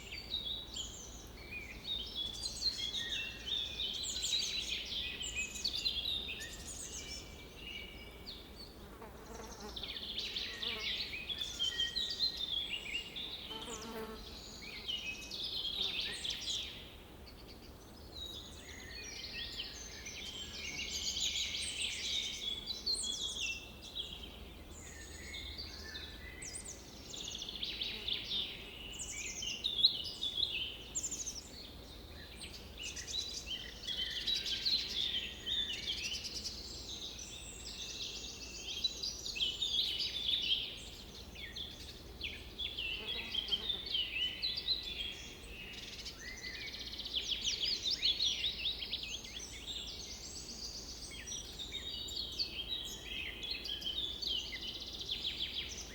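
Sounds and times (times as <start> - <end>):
faint low background noise: 0.0 - 55.9
songbirds chirping and trilling: 0.0 - 55.9.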